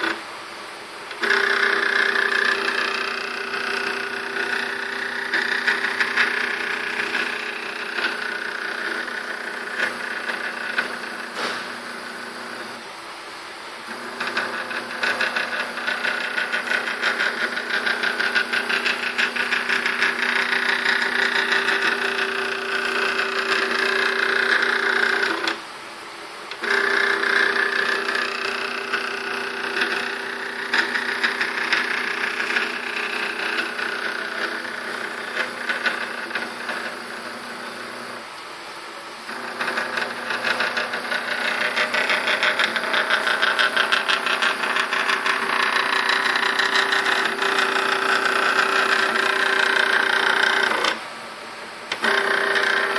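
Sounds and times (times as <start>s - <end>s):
stepper motor humming and ticking: 0.0s - 0.3s, 1.1s - 12.8s, 13.8s - 25.7s, 26.5s - 38.2s, 39.2s - 51.1s, 51.9s - 52.9s.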